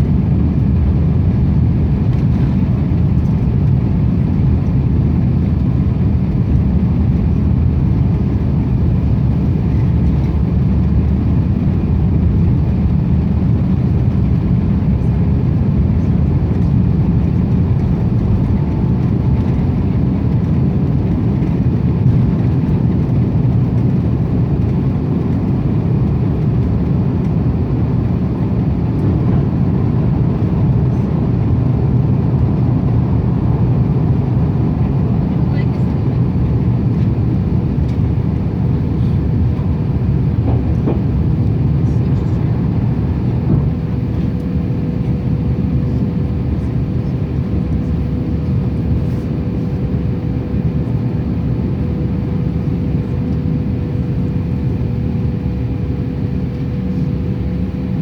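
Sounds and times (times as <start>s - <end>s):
jet airliner rumble: 0.0s - 58.0s.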